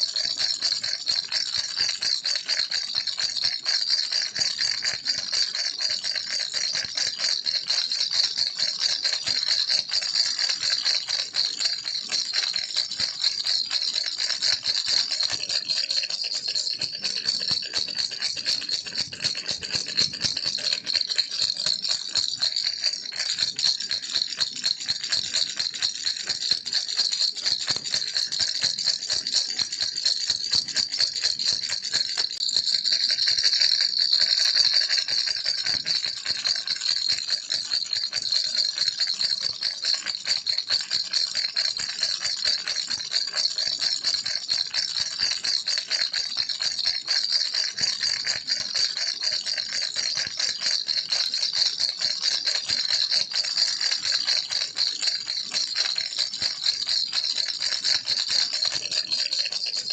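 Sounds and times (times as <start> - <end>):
baby's toy rattle shaken: 0.0 - 59.9.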